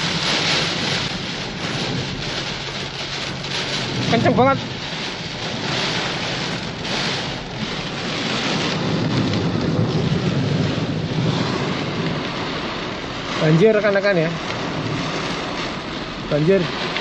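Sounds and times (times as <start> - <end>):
heavy rain lashing windscreen: 0.0 - 17.0
low rumble of wind: 0.0 - 17.0.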